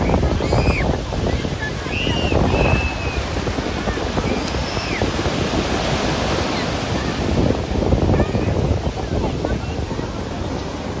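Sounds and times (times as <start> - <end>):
heavy surf breaking: 0.0 - 11.0
wind buffeting microphone: 0.0 - 11.0.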